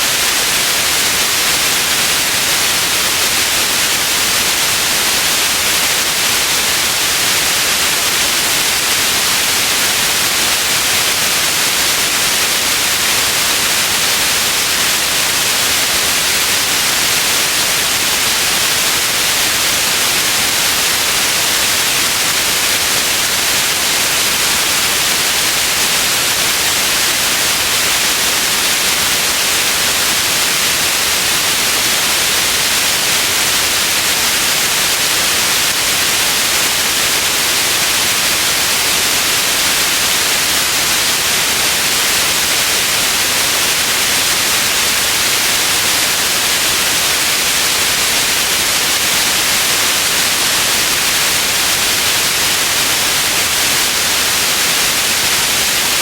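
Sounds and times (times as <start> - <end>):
steady white noise: 0.0 - 56.0.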